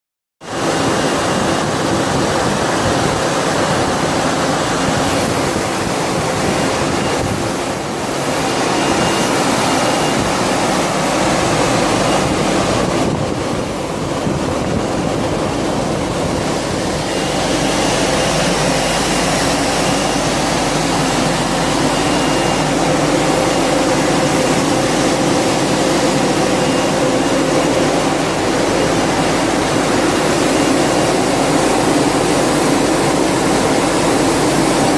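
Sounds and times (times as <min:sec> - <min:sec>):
exhaust fans: 0:00.4 - 0:34.9
production line machine noise: 0:00.4 - 0:34.9.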